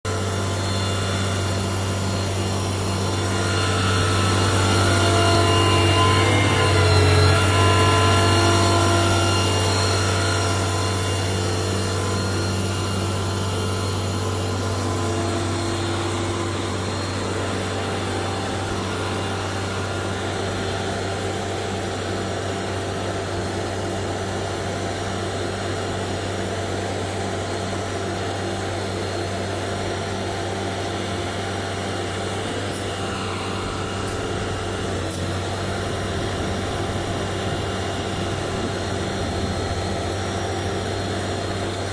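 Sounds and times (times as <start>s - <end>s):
heavy machine low drone: 0.1s - 41.9s.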